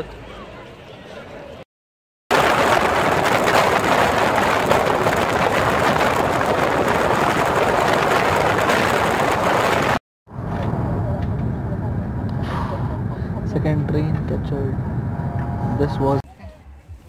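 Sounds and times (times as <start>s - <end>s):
high-speed train rushing: 2.3s - 16.2s.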